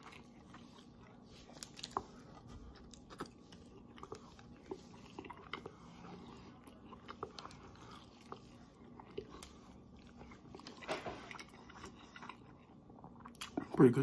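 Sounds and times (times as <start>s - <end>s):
mouth clicks and chewing: 0.0s - 13.8s.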